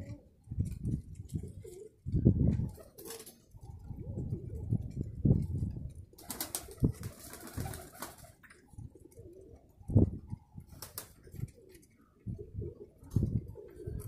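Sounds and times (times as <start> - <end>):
pigeons cooing: 0.0 - 0.5, 1.2 - 14.0.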